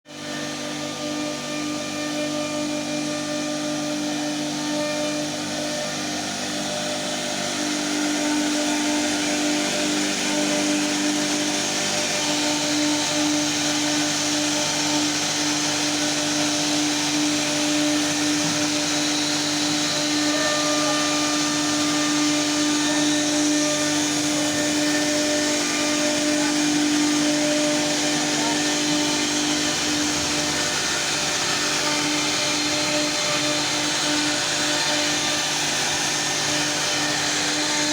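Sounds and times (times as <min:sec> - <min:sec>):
router spindle cutting wood: 0:00.0 - 0:37.9.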